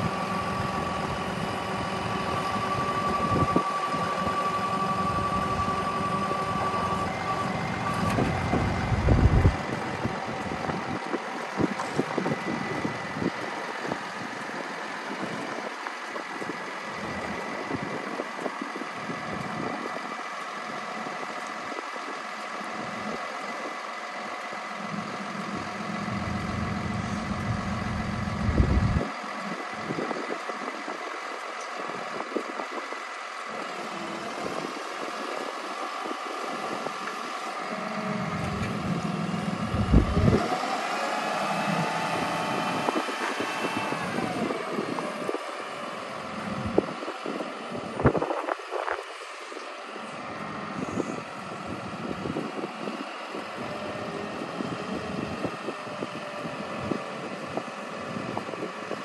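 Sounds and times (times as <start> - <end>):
hydraulic whine: 0.0 - 20.1, 24.8 - 59.0
diesel engine running: 0.0 - 59.0.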